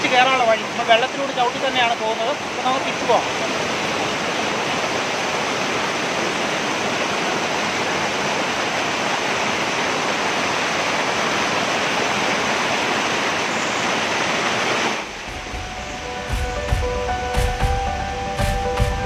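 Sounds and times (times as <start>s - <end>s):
waterfall over rocks: 0.0s - 19.0s.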